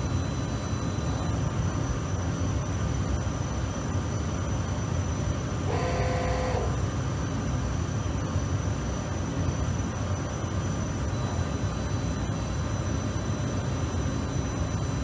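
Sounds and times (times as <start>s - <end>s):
machinery hum with high whine: 0.0s - 15.0s.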